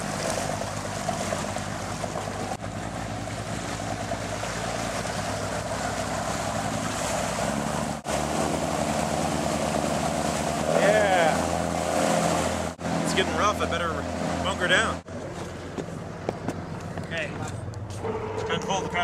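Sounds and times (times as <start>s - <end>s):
water rushing from wake: 0.0s - 16.2s
boat engine humming: 0.0s - 19.0s.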